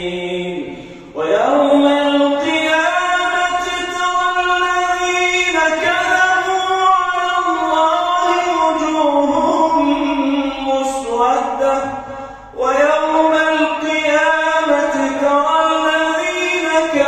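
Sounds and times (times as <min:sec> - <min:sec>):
man chanting melodic recitation: 0:00.0 - 0:17.0.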